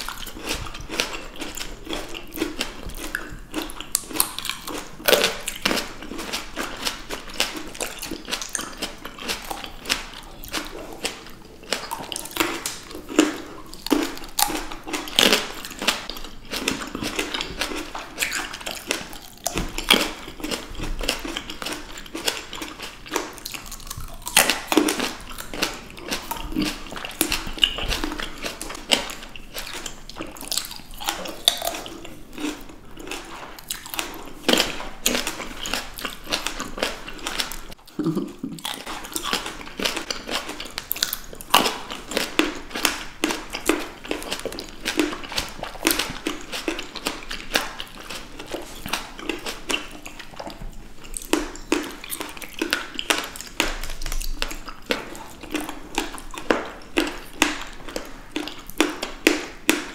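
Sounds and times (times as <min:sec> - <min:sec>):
biting and chewing juicy fruit: 0:00.0 - 0:59.9.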